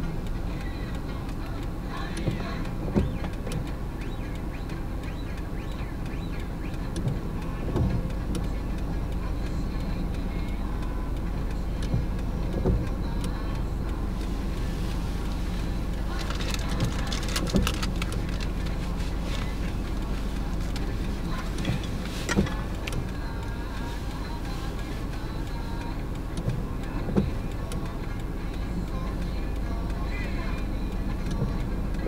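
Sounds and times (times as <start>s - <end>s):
car engine idling: 0.0s - 32.0s
tyres hissing on wet road: 0.0s - 32.0s.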